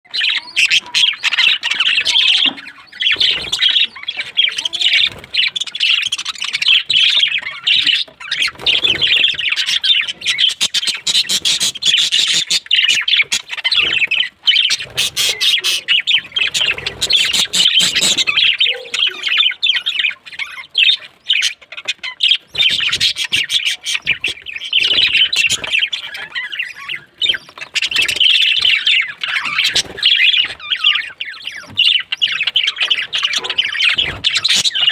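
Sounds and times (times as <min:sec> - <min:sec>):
small birds chattering and squawking: 0:00.0 - 0:34.9.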